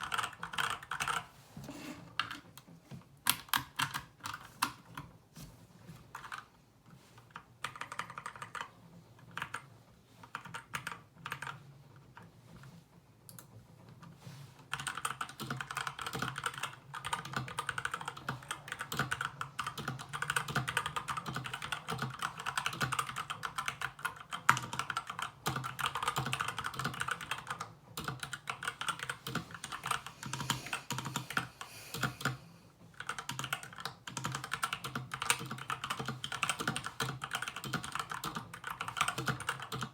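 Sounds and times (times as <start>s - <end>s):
mechanical keyboard typing: 0.0s - 1.3s, 3.2s - 5.1s, 7.3s - 9.7s, 10.3s - 12.3s, 14.7s - 39.9s.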